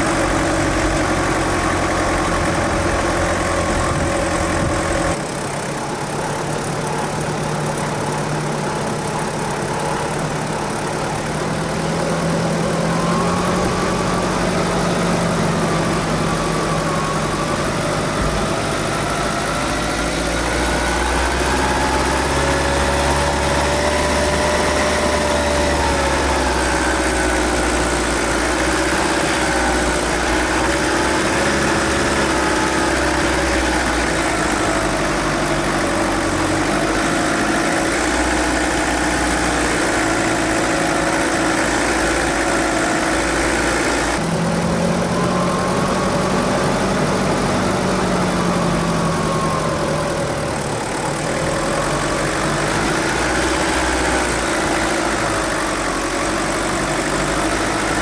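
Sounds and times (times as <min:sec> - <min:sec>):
diesel engine running at low revs: 0:00.0 - 0:58.0.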